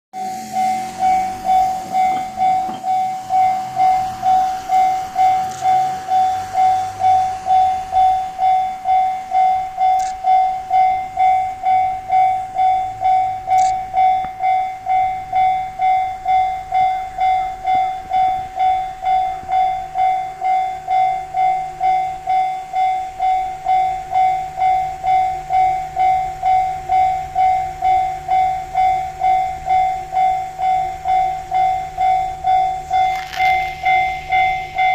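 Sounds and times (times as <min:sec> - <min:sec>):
level crossing alarm ringing: 0:00.2 - 0:34.9.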